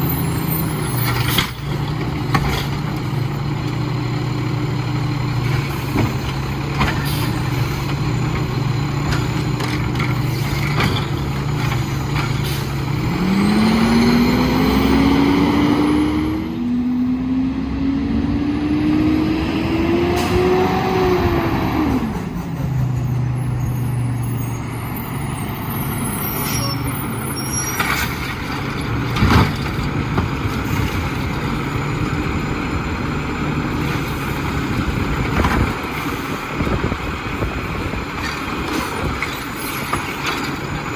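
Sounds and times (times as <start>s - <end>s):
garbage truck diesel engine revving: 0.0s - 40.9s.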